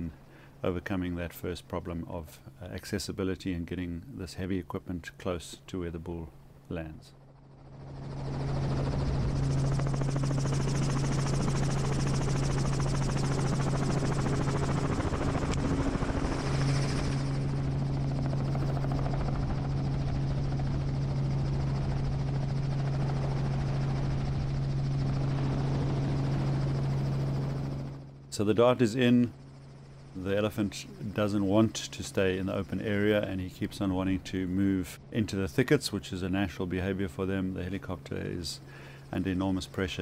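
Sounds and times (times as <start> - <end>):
helicopter engine and rotor: 6.3 - 40.0.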